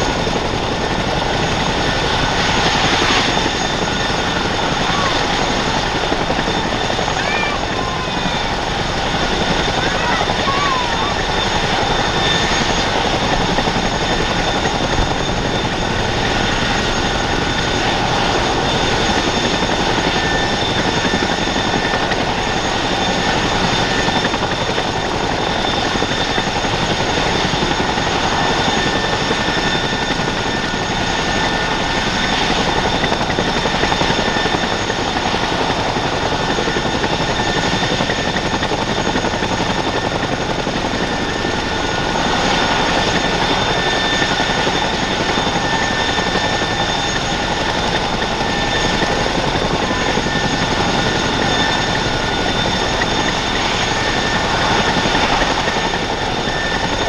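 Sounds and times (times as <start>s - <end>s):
helicopter rotors turning: 0.0s - 57.0s
turbine engine whine: 0.0s - 57.0s.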